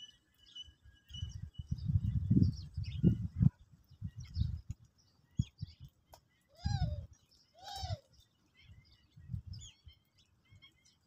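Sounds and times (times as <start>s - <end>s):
drawn-out rising and falling bird calls: 0.0s - 11.0s
sparrows chirping: 0.0s - 11.0s.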